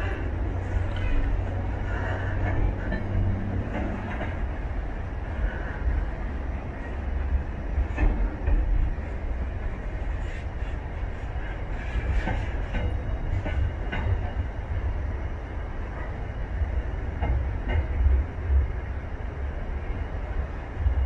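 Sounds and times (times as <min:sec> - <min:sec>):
train wagons rumbling past: 0:00.0 - 0:21.0.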